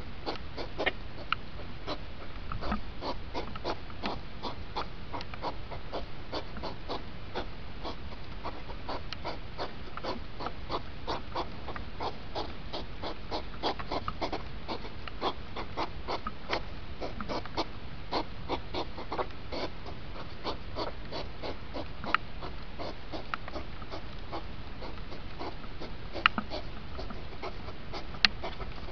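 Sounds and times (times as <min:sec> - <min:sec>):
hedgehogs snorting and huffing: 0:00.0 - 0:28.9.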